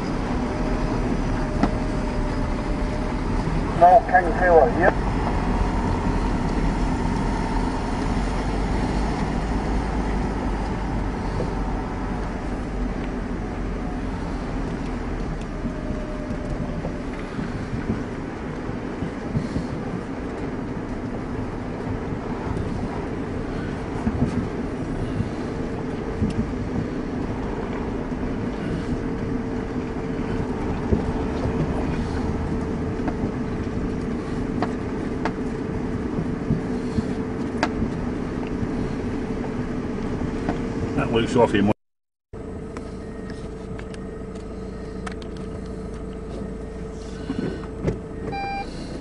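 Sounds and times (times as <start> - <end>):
steady hum: 0.0 - 41.7, 42.4 - 49.0
vehicle engine and tyre noise: 0.0 - 49.0.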